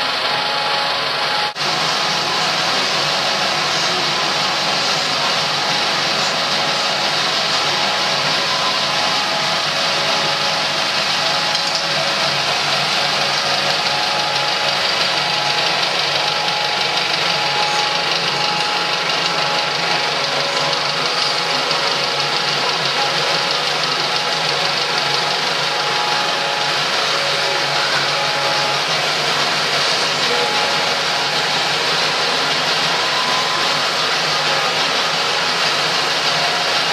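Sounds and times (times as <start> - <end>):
film projector whirring: 0.0 - 36.9.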